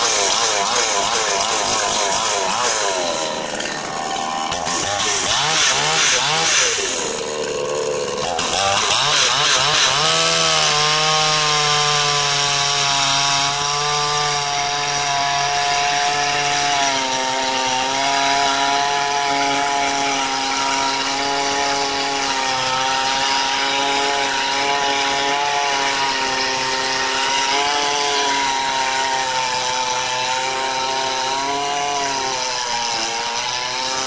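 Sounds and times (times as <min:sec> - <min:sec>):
chainsaw cutting at full throttle: 0:00.0 - 0:34.0.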